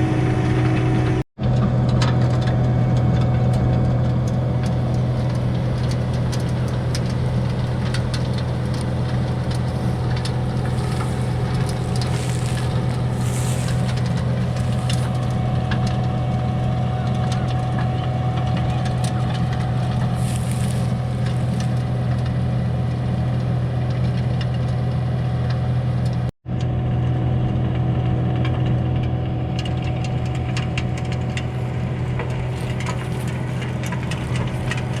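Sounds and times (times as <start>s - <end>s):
rotary tiller working soil: 0.0s - 26.3s, 27.4s - 35.0s
skid steer engine running: 0.0s - 35.0s.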